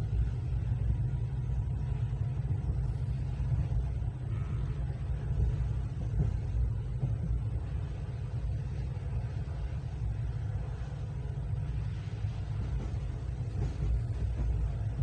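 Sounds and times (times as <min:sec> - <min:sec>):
train rumble from inside: 0:00.0 - 0:15.0.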